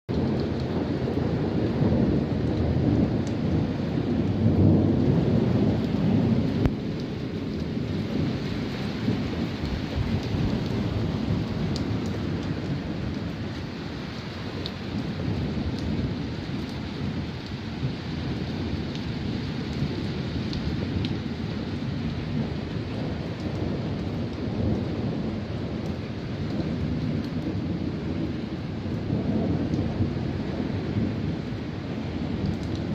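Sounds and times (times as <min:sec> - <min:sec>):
steady rainfall: 0:00.1 - 0:32.9.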